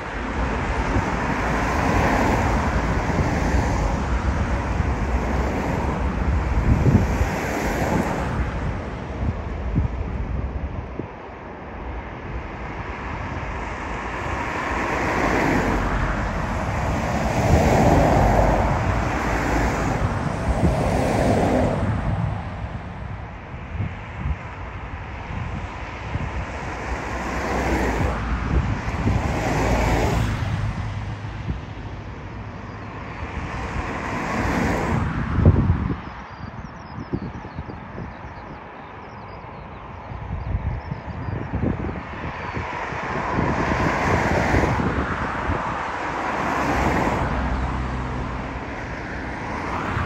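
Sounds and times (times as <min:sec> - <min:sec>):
jet engine rumble: 0:00.0 - 0:50.0
wind buffeting microphone: 0:00.0 - 0:50.0.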